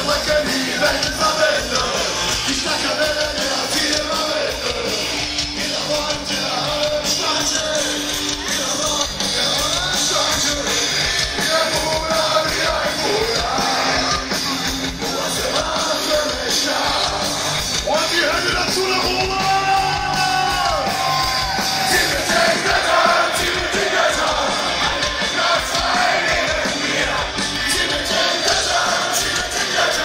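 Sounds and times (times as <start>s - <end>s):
audience yelling and singing along: 0.0s - 30.0s
live rock band playing: 0.0s - 30.0s
sung vocals: 0.0s - 30.0s.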